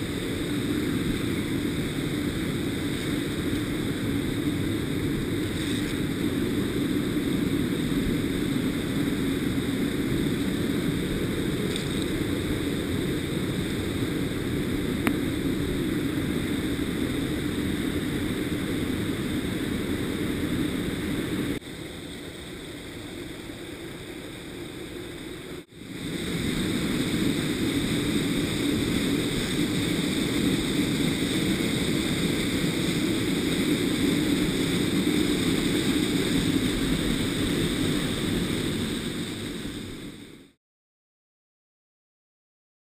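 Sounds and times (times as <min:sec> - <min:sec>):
mountain torrent rushing: 0:00.0 - 0:40.5.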